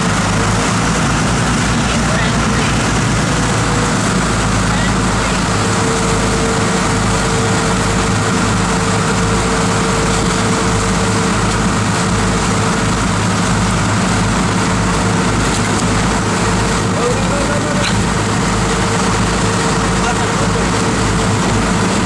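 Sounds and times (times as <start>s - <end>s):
boat engine humming: 0.0s - 22.0s
churning wake water: 0.0s - 22.0s.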